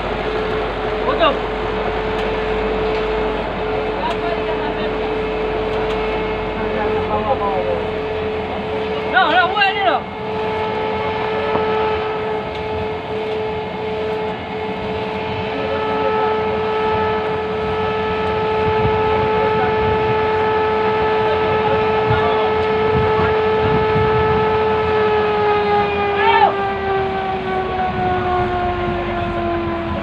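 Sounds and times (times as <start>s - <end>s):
band saw whining: 0.0s - 30.0s.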